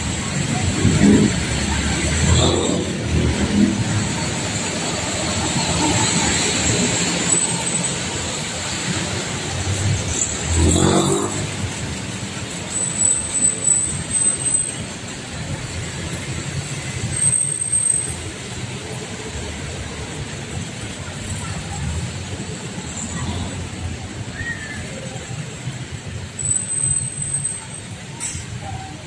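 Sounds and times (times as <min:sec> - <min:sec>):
cars and motorcycles passing: 0:00.0 - 0:29.0.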